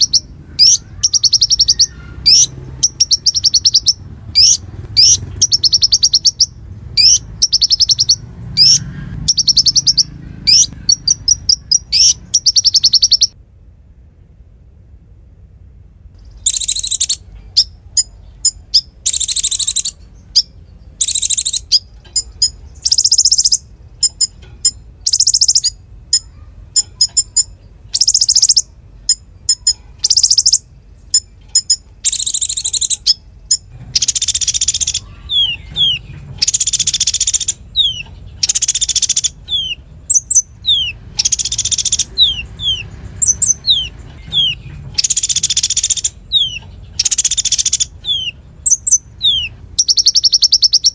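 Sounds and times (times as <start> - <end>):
songbird trilling: 0.0 - 13.4, 16.2 - 50.9.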